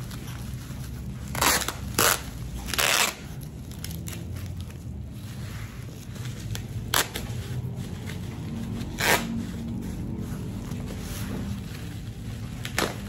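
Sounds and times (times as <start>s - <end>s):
bubble wrap rustling and crinkling: 0.0s - 13.0s.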